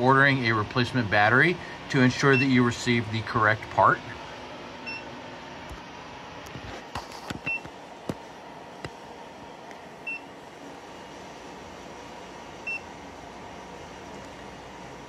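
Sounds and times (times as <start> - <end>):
equipment hum: 0.0 - 15.0.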